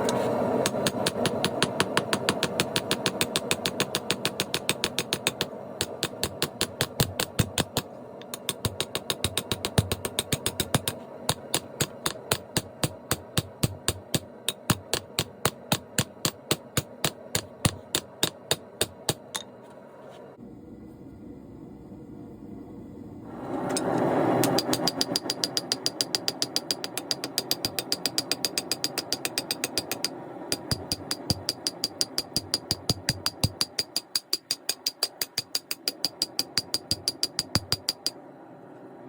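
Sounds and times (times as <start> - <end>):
hammer striking steel on anvil: 0.0 - 19.5, 24.4 - 38.2.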